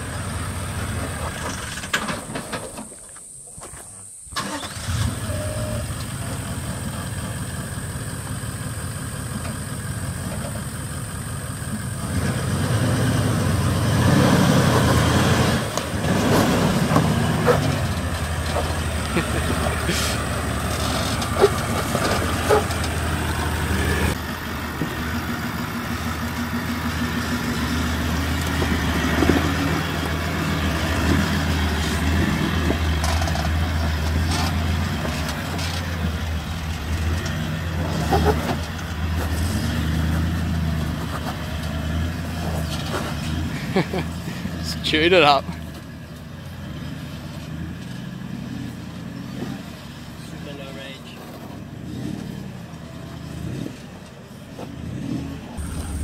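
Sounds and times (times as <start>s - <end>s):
diesel engine running at low revs: 0.0s - 1.9s, 4.7s - 56.0s.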